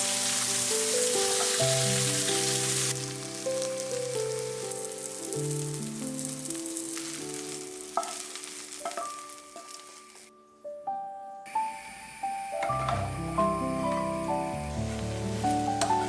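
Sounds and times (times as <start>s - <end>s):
food sizzling in oil: 0.0s - 10.3s, 11.5s - 16.0s
background music: 0.0s - 16.0s.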